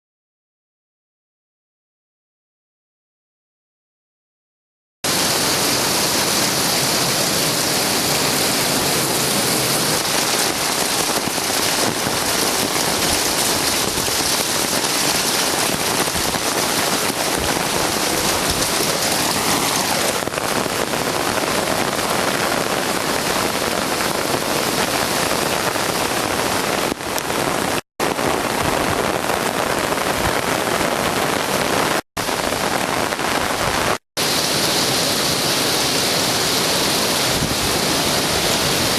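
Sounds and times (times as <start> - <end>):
heavy rain downpour: 5.1 - 38.9.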